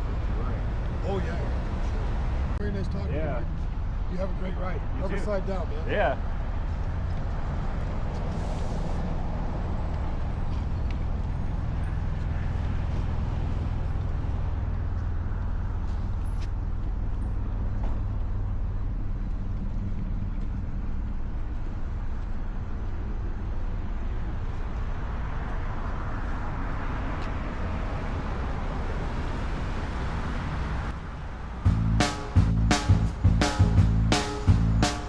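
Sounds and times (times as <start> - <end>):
wind and road noise hiss: 0.0 - 35.0.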